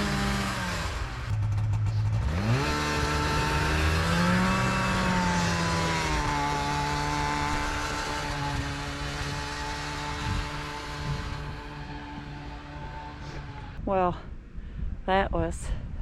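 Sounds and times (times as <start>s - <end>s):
snowmobile engine revving: 0.0s - 13.8s.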